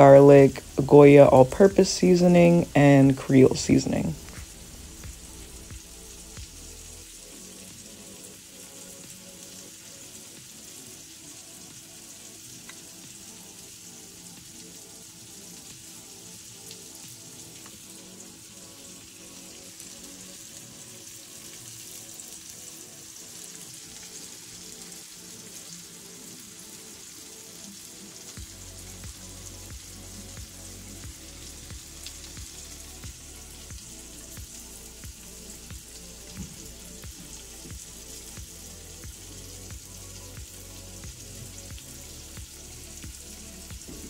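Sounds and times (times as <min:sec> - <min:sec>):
soft background music: 0:00.0 - 0:44.0
vegetables sizzling in a frying pan: 0:00.0 - 0:44.0.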